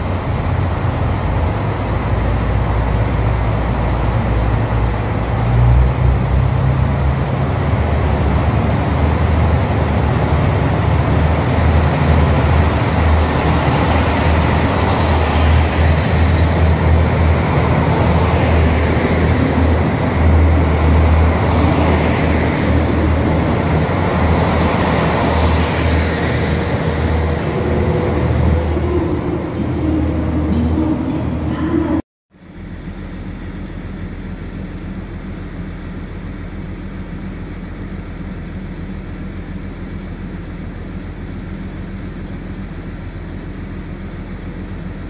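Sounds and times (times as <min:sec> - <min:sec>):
steady low drone: 0:00.0 - 0:45.0.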